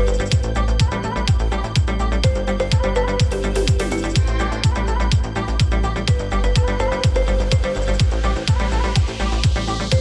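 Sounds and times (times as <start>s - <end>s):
electronic dance music: 0.0s - 10.0s
kick drum: 0.0s - 10.0s
ticking hi-hat: 0.0s - 10.0s.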